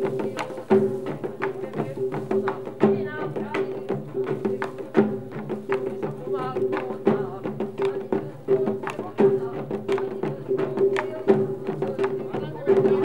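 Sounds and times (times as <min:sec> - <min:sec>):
hand drums and gongs: 0:00.0 - 0:13.0.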